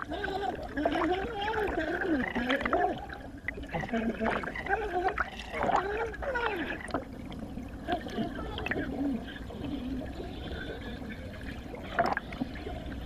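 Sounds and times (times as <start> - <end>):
water gurgling with air bubbles: 0.0 - 13.0.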